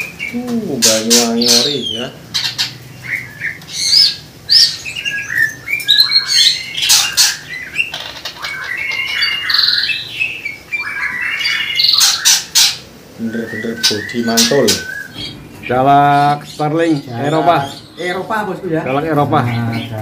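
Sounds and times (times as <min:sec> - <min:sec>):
songbirds squawking and chirping: 0:00.0 - 0:20.0.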